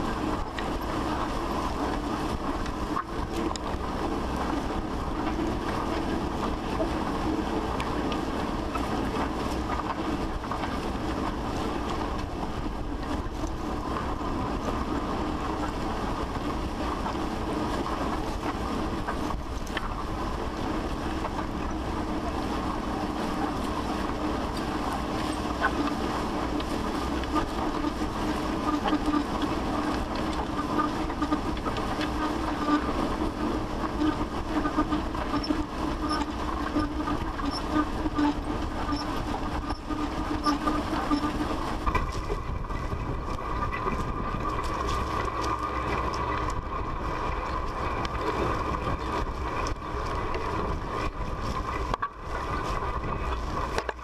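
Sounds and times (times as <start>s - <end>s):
disc harrow grinding and rattling: 0.0s - 54.0s.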